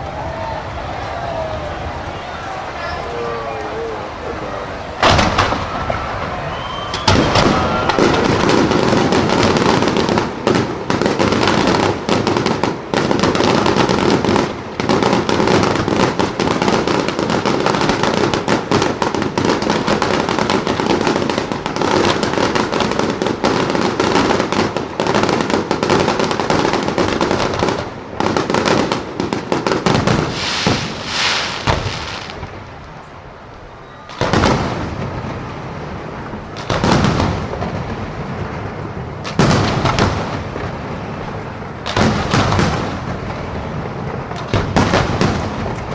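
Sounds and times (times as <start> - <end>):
firecrackers crackling: 0.0 - 45.9
fireworks bangs: 0.0 - 45.9.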